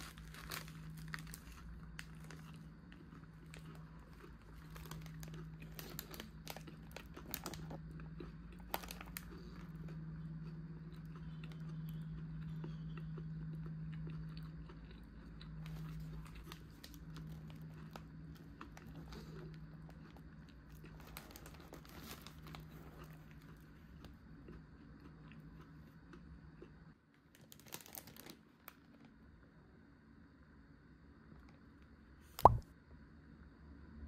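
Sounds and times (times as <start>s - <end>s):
fried chicken crunching: 0.0s - 28.9s
crackles: 0.0s - 29.3s
low steady hum: 0.0s - 34.0s.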